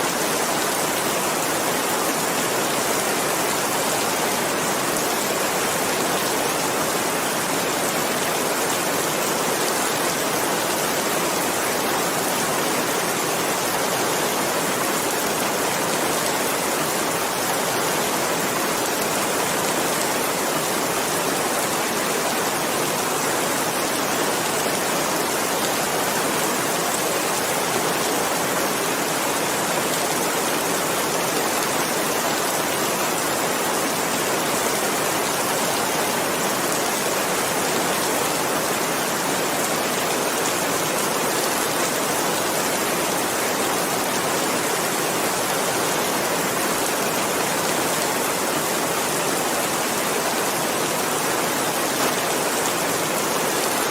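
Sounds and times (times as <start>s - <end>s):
dense rainfall hiss: 0.0s - 53.9s.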